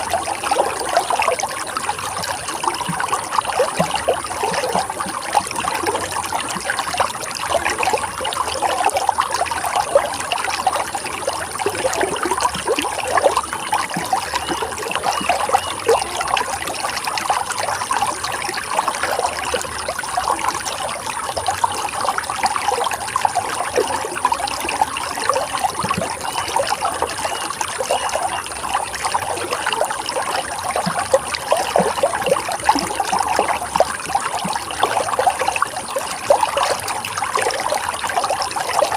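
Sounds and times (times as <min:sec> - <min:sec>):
small water splashes: 0:00.0 - 0:38.9
water flowing and trickling: 0:00.0 - 0:38.9.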